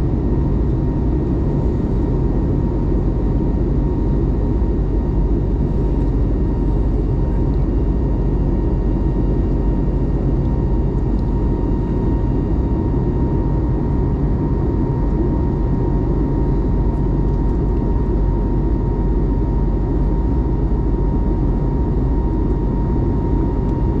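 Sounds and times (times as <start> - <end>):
engine and airflow rumble: 0.0 - 24.0
thin steady whine: 0.0 - 24.0.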